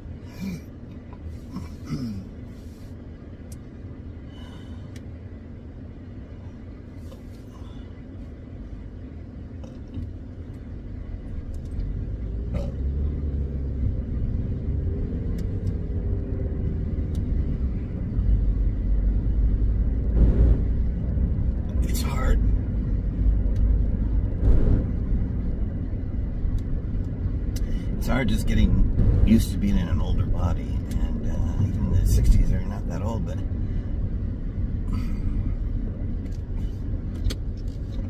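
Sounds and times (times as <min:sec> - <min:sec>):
car rumble: 0:00.0 - 0:38.0
faint steady hum: 0:00.0 - 0:38.0.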